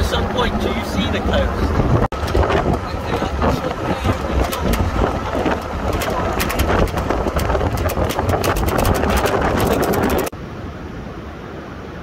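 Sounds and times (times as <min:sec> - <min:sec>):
low engine rumble: 0:00.0 - 0:10.4
wind buffeting microphone: 0:00.0 - 0:10.4.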